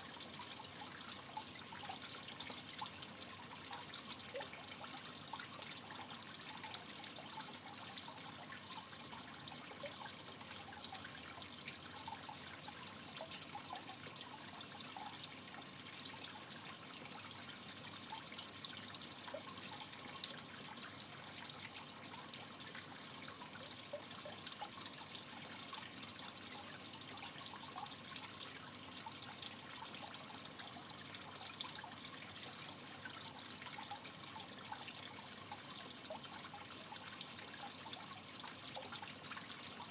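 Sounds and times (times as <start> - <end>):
aquarium water trickling: 0.0 - 39.9
small ticks and bubbles: 0.0 - 39.9.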